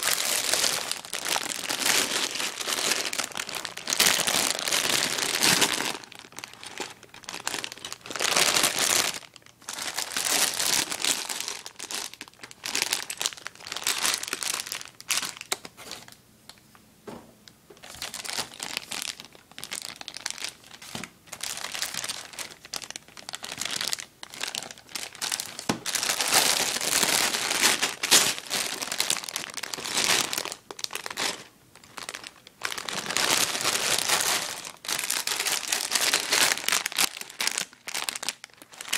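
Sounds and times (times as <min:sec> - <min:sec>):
plastic bags crinkling: 0:00.0 - 0:16.2, 0:17.8 - 0:38.9.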